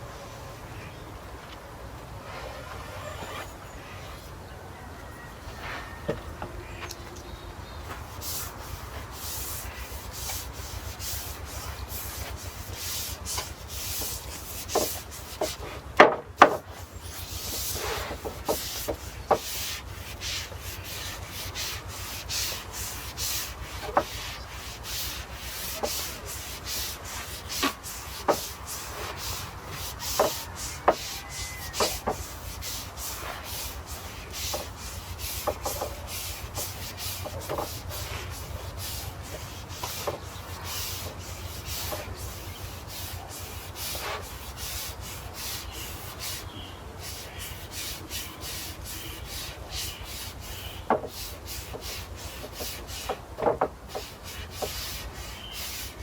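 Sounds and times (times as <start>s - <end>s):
brush strokes on wooden planks: 1.4s - 4.4s, 5.0s - 7.2s, 7.8s - 56.0s.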